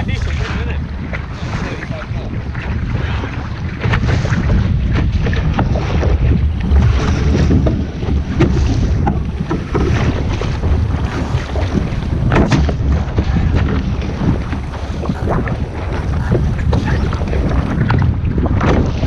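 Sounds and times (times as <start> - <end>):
water slapping against hull: 0.0 - 19.0
wind buffeting microphone: 0.0 - 19.0.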